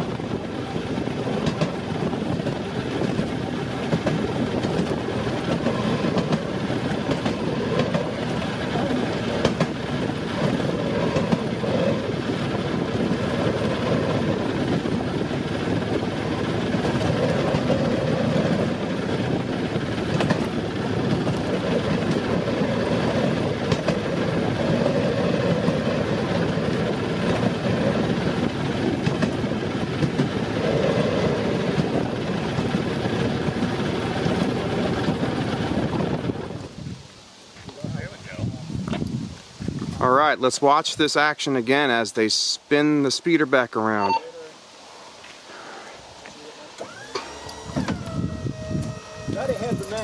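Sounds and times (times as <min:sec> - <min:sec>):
wheels clicking over rail joints: 0:00.0 - 0:36.8, 0:46.2 - 0:50.0
steel wheels rumbling on track: 0:00.0 - 0:37.0, 0:46.7 - 0:50.0.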